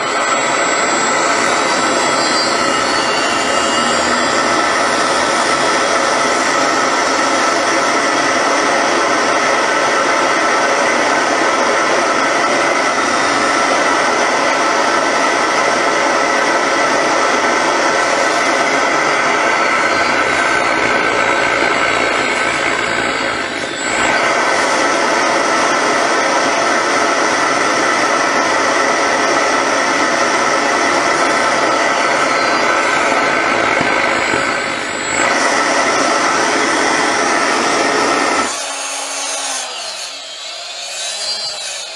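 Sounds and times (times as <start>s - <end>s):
compressor whining: 0.0s - 41.9s
miniature jet engine running: 0.0s - 41.9s.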